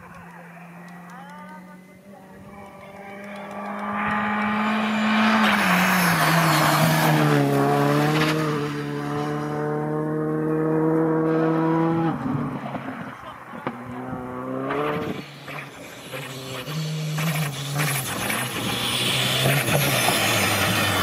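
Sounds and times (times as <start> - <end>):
rally car engine passing by: 1.7 - 21.0.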